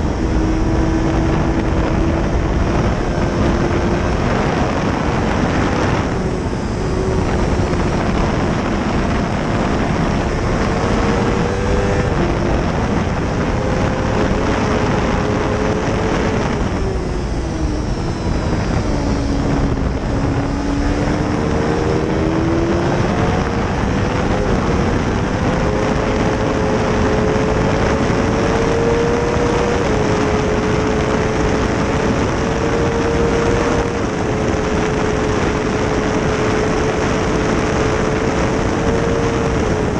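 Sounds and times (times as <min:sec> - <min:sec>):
motorcycle engine running hard: 0:00.0 - 0:39.9
wind on microphone: 0:00.0 - 0:39.9.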